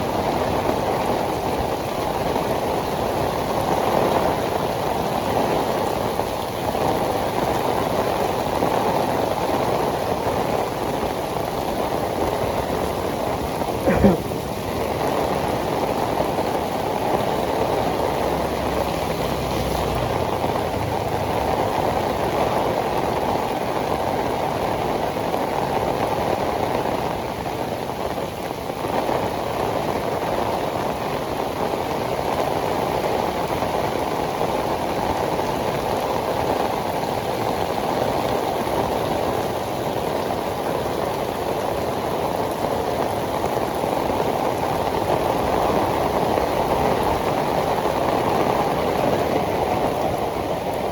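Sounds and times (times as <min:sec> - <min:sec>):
heavy rain on pavement: 0:00.0 - 0:50.9.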